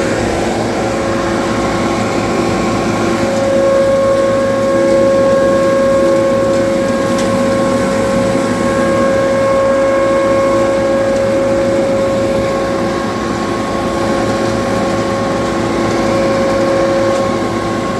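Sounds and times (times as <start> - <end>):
low engine drone: 0.0 - 17.9
machine whine: 0.0 - 17.9.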